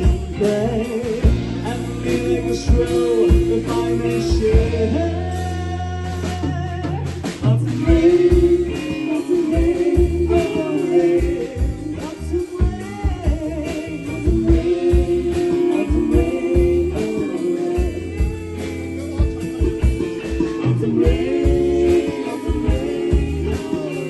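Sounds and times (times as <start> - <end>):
bass guitar: 0.0 - 24.0
drum kit: 0.0 - 24.0
guitar: 0.0 - 24.0
person singing: 0.0 - 24.0.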